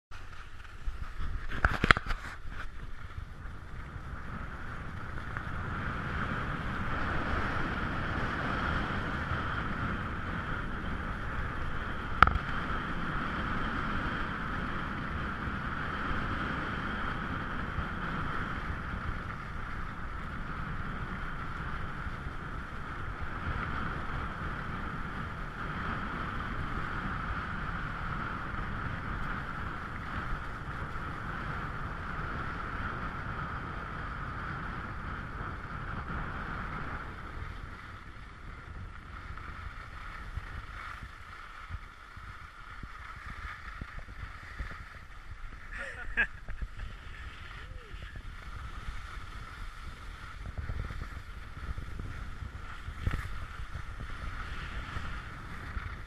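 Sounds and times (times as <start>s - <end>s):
rushing wind: 0.1s - 56.0s
skis sliding over snow: 0.1s - 56.0s.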